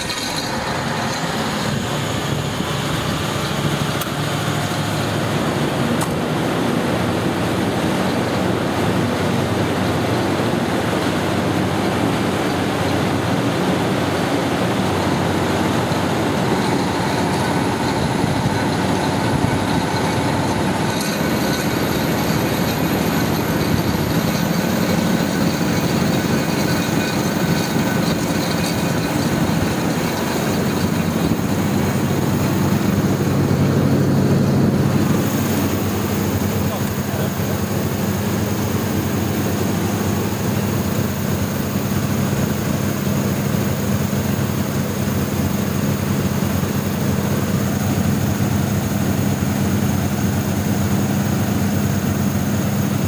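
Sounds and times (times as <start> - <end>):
diesel generator drone: 0.0 - 53.0
high whine: 0.0 - 53.0.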